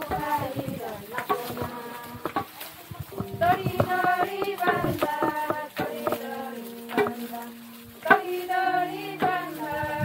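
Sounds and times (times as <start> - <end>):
sharp percussive beat: 0.0 - 9.5
voices singing held notes: 0.0 - 10.0.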